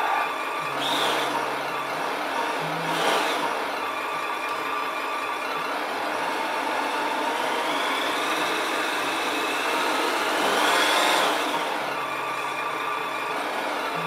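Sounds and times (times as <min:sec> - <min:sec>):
toy car motor drone and whine: 0:00.0 - 0:14.0.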